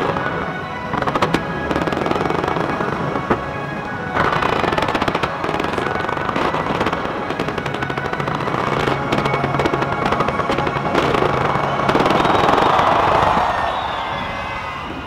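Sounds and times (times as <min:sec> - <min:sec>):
fireworks cracks and bangs: 0:00.0 - 0:15.0
music playing: 0:00.0 - 0:15.0.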